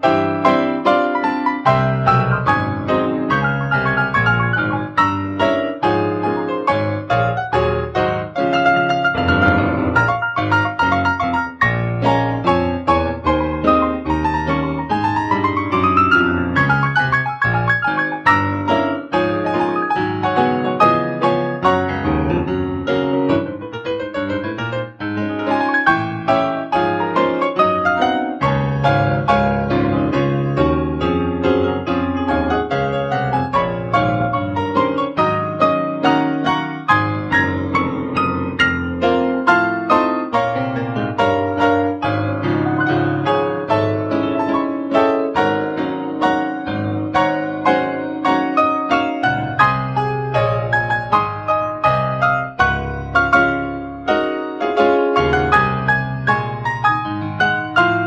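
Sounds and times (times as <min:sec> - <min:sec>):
solo piano prelude: 0:00.0 - 0:58.0.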